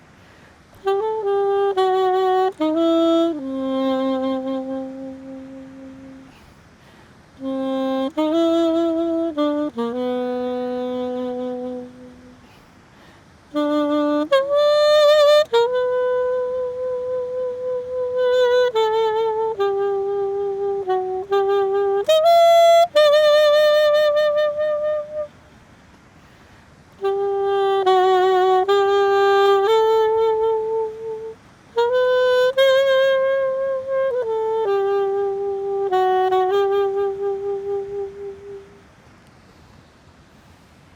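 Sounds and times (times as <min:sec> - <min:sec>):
solo saxophone hymn melody: 0:00.0 - 0:40.9.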